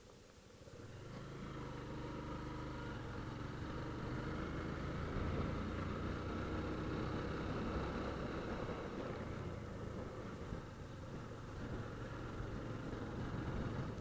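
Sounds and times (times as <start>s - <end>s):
motorcycle engine running: 0.8s - 14.0s.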